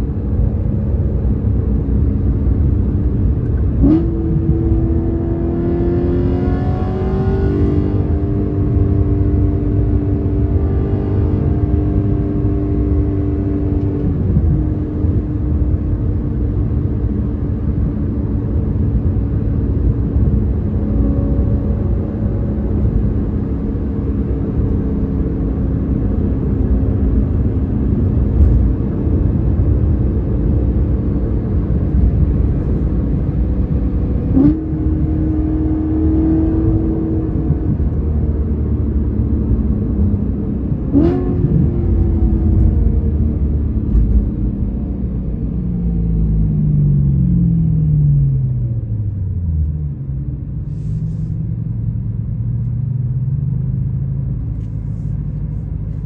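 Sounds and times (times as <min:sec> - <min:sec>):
car engine droning while driving: 0:00.0 - 0:56.0.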